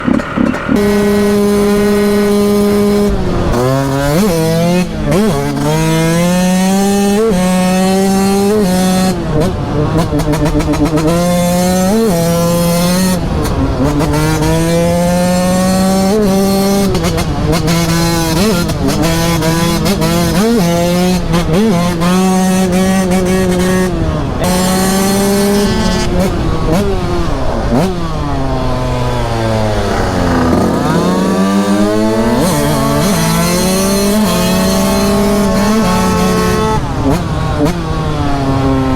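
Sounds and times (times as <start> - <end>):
two-stroke dirt bike engine revving: 0.0 - 38.9.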